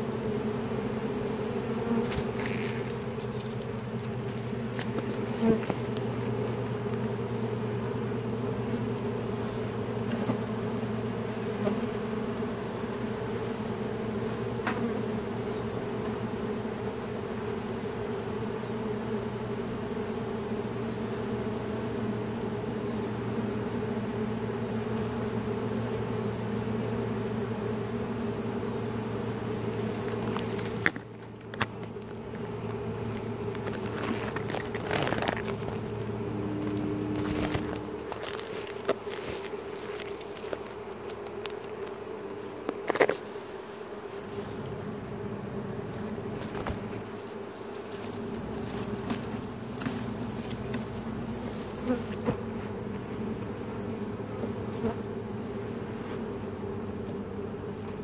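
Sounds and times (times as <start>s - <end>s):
bee swarm buzzing hum: 0.0s - 58.0s.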